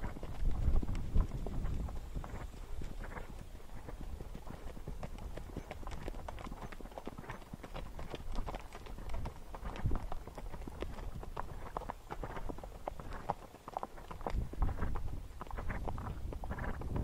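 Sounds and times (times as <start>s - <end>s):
hoofbeats on gravel trail: 0.0s - 17.0s.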